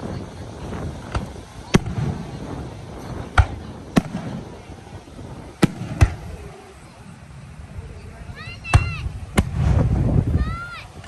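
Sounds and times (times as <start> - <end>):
fireworks bangs: 0.0 - 6.9, 8.4 - 10.7
low background rumble: 0.0 - 11.0.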